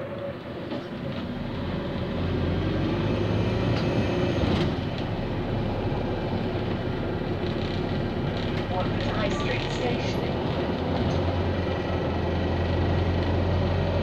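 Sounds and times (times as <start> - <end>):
bus engine: 0.0 - 14.0
road noise: 0.0 - 14.0.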